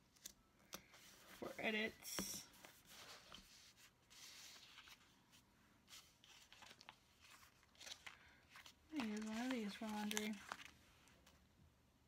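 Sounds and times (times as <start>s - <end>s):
rustling of sticker sheets: 0.8s - 11.4s.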